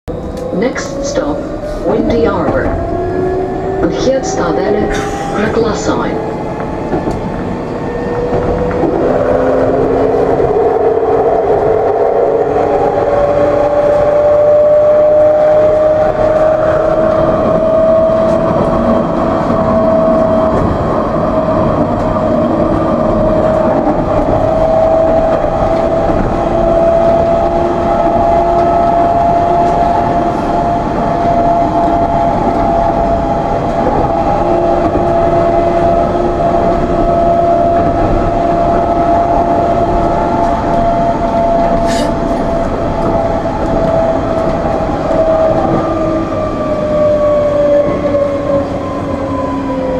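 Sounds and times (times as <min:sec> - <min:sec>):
tram electric drive whine: 0:00.1 - 0:49.9
wheels rumbling on rails: 0:00.1 - 0:49.9.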